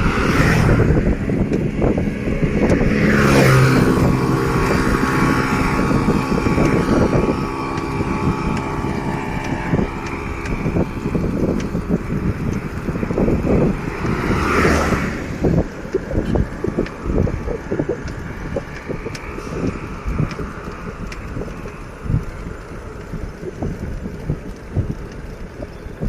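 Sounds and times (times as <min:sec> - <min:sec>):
vehicle engine passing: 0:00.0 - 0:25.6
wind buffeting microphone: 0:00.0 - 0:26.0.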